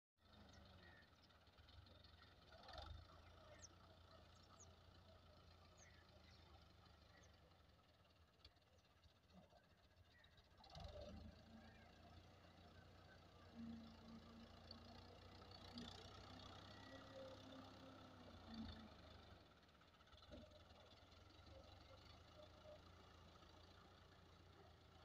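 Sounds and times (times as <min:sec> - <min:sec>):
faint tractor diesel engine: 0:00.2 - 0:25.0.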